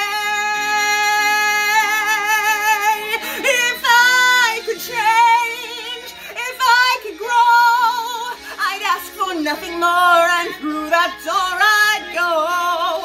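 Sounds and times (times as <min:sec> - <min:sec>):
backing track: 0:00.0 - 0:13.0
woman belting a song: 0:00.0 - 0:13.0.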